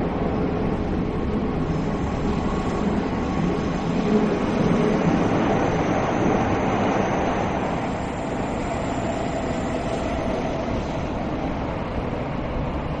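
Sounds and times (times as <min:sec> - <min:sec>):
train wheel and rail rumble: 0:00.0 - 0:13.0.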